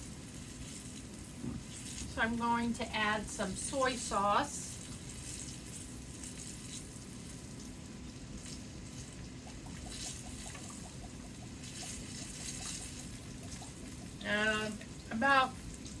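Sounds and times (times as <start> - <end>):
tofu sizzling in skillet: 0.0 - 2.3, 3.2 - 16.0.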